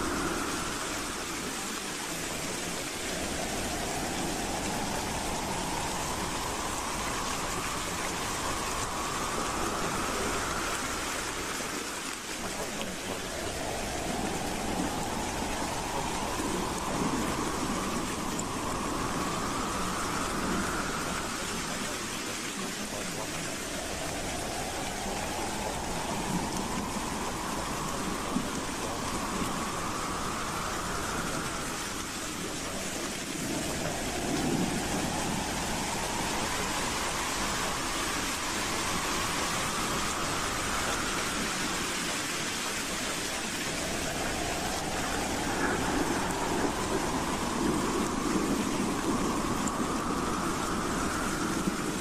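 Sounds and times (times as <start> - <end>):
howling wind: 0.0 - 52.0.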